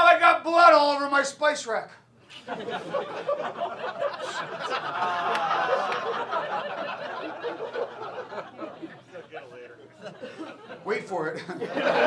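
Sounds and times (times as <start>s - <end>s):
audience laughing: 2.3s - 12.0s.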